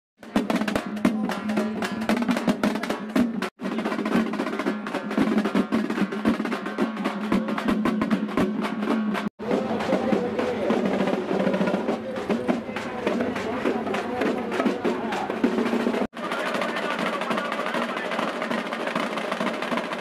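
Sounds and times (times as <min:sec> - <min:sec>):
fast drumming with drum rolls: 0:00.2 - 0:20.0.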